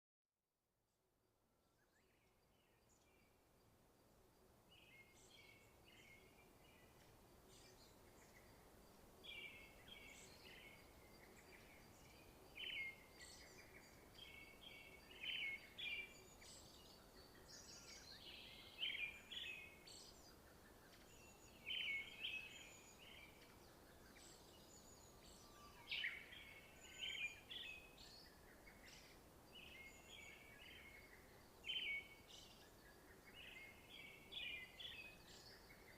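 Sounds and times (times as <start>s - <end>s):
faint steady hiss: 1.2s - 35.9s
small songbirds chirping: 1.5s - 35.9s.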